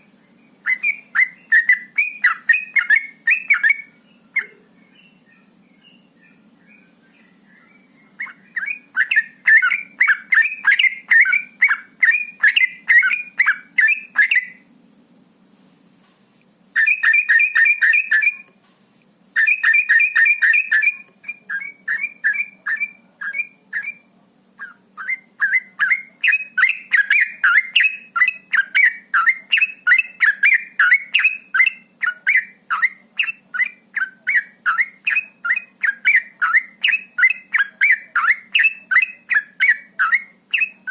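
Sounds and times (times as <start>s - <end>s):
bulbul singing rapid chirps: 0.0s - 14.7s, 16.8s - 18.5s, 19.4s - 40.9s.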